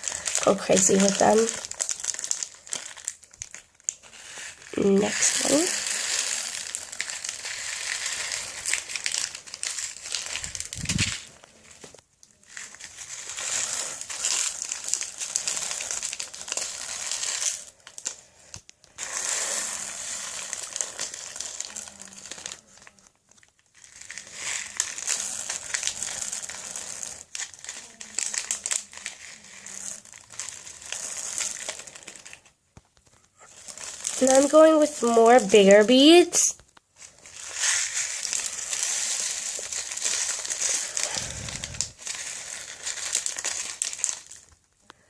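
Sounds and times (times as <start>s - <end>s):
crunchy slime being squeezed: 0.0s - 32.6s, 33.4s - 45.0s.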